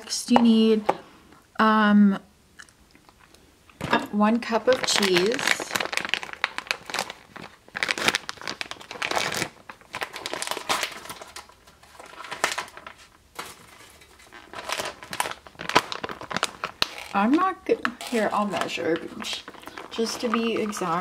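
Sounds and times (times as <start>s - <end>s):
plastic bag crinkling: 3.1s - 21.0s.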